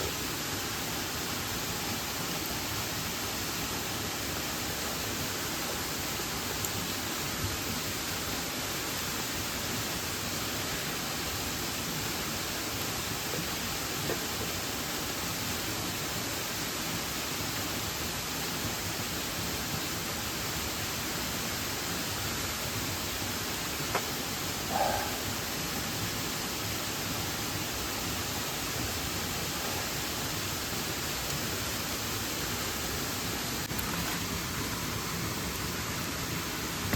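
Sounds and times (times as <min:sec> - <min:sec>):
waterfall and stream rushing: 0:00.0 - 0:36.9.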